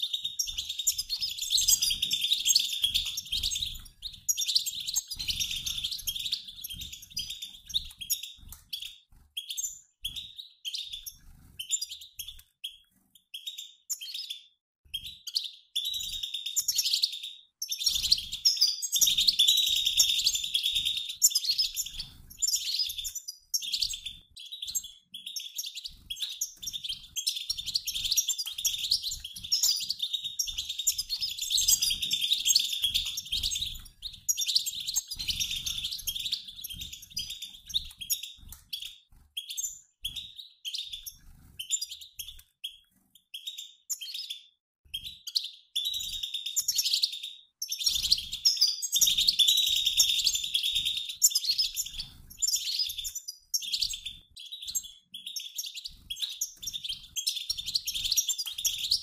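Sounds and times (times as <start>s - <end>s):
finch flock twittering: 0.0s - 14.4s, 15.0s - 44.4s, 45.0s - 59.0s.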